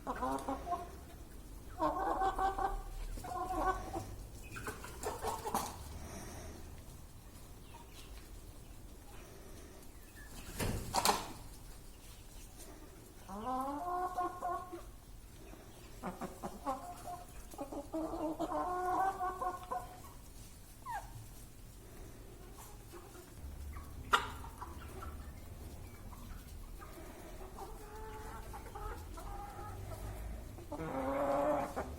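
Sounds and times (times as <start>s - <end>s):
chickens calling: 0.0s - 31.9s.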